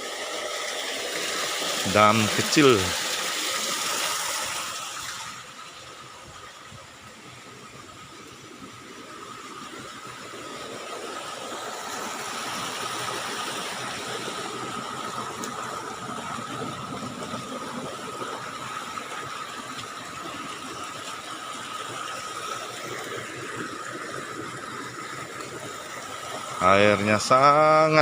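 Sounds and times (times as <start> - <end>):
water rushing over a dam: 0.0 - 28.0.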